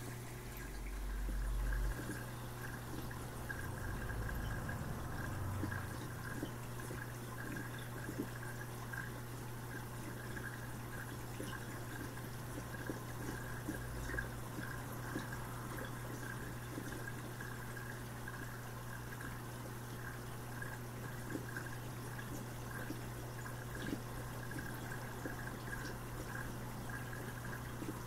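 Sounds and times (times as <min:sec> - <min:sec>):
steady low hum: 0:00.0 - 0:28.0
water trickling and dripping: 0:00.0 - 0:28.0.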